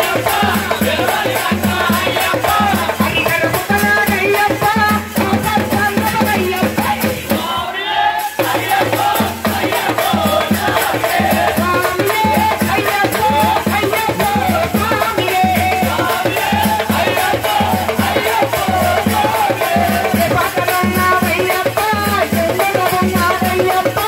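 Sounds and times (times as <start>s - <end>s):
drums: 0.0s - 24.0s
shaker jingling beat: 0.0s - 24.0s.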